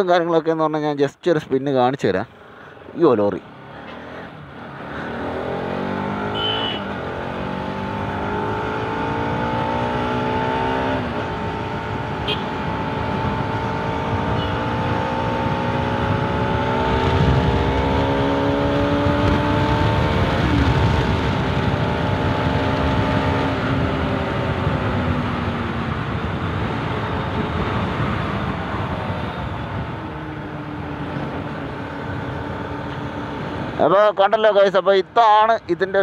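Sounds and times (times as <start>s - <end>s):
motorcycle engine accelerating: 4.6s - 33.8s.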